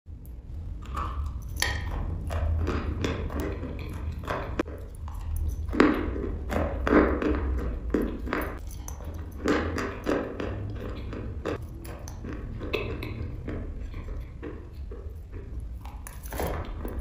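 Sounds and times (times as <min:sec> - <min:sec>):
chewing and crunching chalk: 0:00.1 - 0:17.0.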